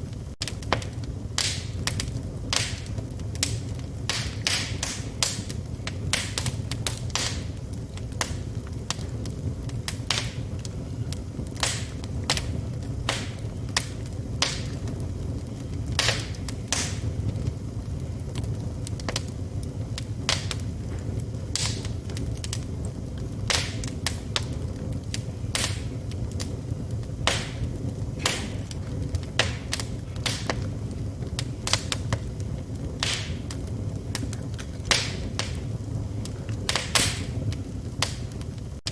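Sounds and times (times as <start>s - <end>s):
fire flames rumbling: 0.0s - 38.9s
wood crackling and popping: 0.0s - 38.9s.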